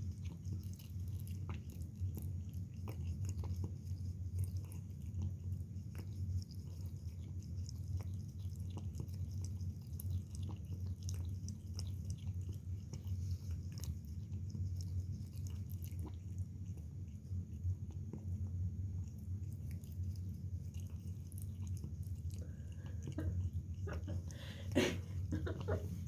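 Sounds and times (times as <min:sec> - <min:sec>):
cat chewing and biting: 0:00.0 - 0:26.0.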